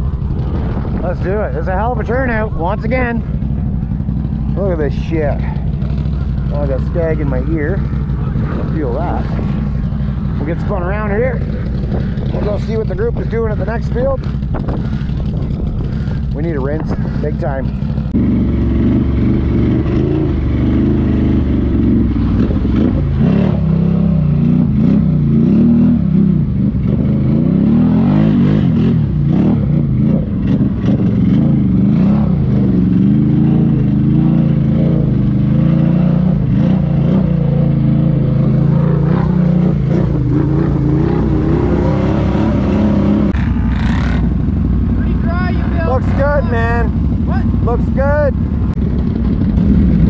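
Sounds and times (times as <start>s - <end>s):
atv engine revving: 0.0s - 50.0s.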